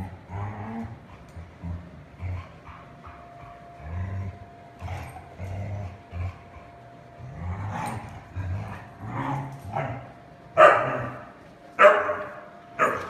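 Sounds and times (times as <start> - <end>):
dogs play-growling: 0.0 - 13.0.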